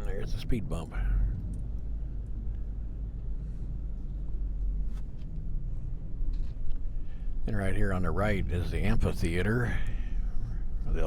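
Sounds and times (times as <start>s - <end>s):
vehicle engine and tyres rumble: 0.0s - 11.0s.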